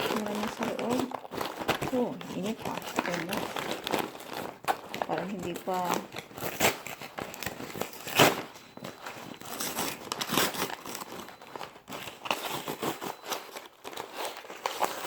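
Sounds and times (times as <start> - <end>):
paper bag crinkling: 0.0 - 15.0.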